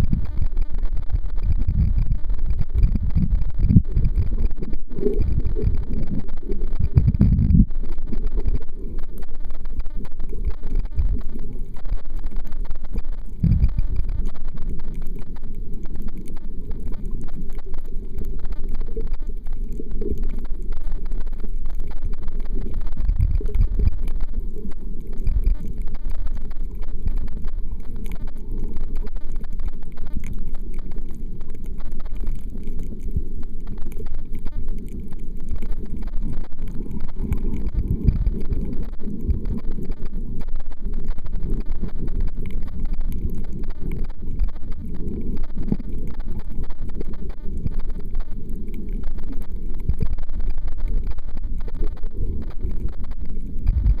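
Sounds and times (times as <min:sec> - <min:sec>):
muffled underwater rumble: 0:00.0 - 0:54.0.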